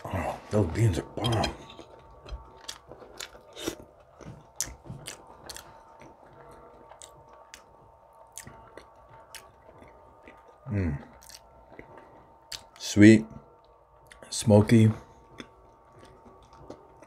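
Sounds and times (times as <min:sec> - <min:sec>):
person chewing food: 0:00.0 - 0:12.8, 0:13.6 - 0:14.3, 0:15.0 - 0:17.0.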